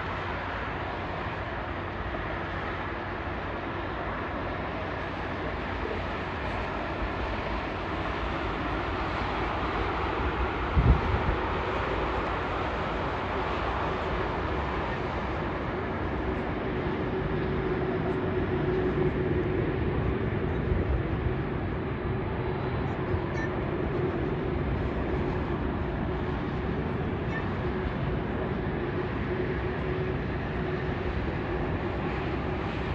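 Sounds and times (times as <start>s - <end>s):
jet engines running: 0.0s - 32.9s.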